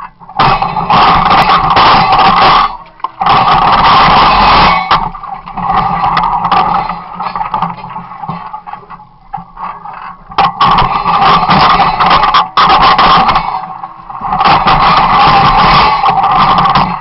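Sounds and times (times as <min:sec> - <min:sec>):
hydraulic machine noise: 0:00.0 - 0:17.0.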